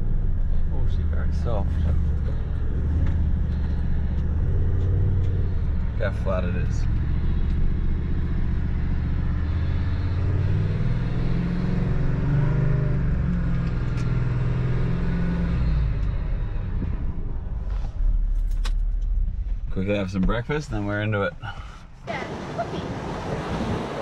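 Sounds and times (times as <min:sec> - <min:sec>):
car engine drone inside cab: 0:00.0 - 0:24.0.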